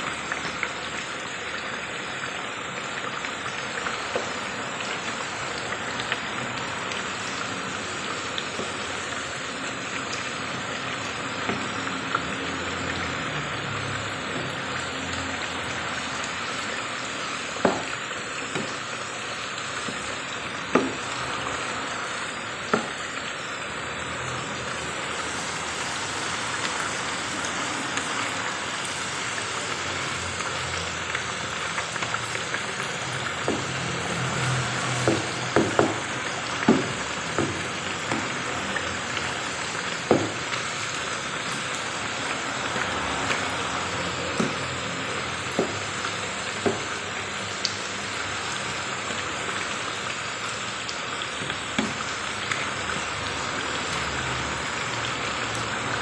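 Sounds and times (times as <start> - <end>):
potatoes deep-frying in oil: 0.0 - 56.0.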